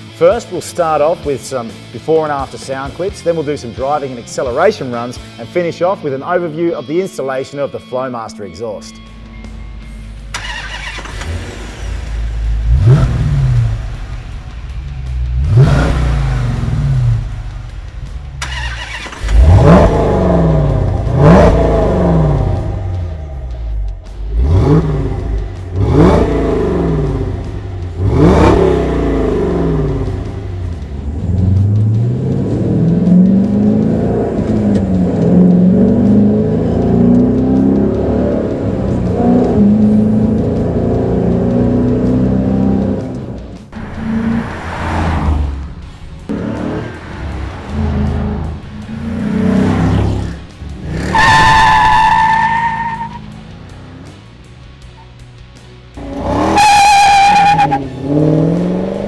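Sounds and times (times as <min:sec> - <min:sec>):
car engine idling and revving: 0:08.4 - 0:59.0
car engine accelerating: 0:09.0 - 0:59.0.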